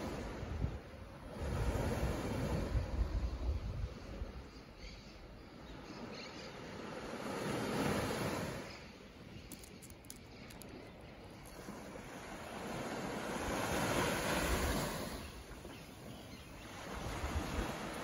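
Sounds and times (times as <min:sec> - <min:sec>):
small waves washing onto beach: 0:00.0 - 0:04.6, 0:05.6 - 0:18.0.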